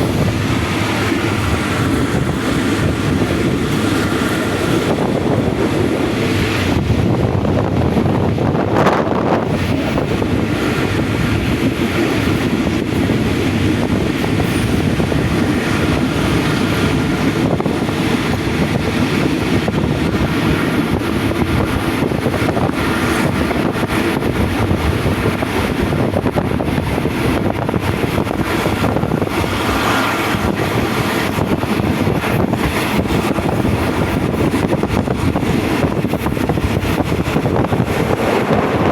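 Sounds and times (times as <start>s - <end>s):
train wheels rumbling on track: 0.0s - 38.9s
wind noise: 0.0s - 38.9s.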